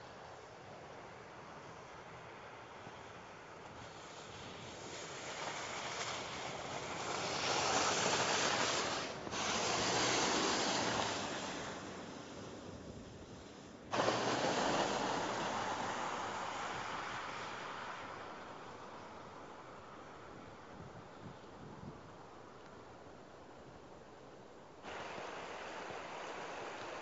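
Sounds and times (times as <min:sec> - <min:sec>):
tyres hissing through slush: 0:00.0 - 0:19.9, 0:24.8 - 0:27.0.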